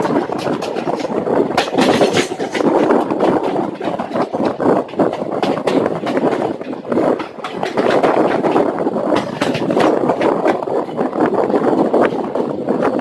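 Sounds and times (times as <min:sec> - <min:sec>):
train coach rumbling: 0:00.0 - 0:13.0
wheels clacking on rails: 0:00.0 - 0:13.0.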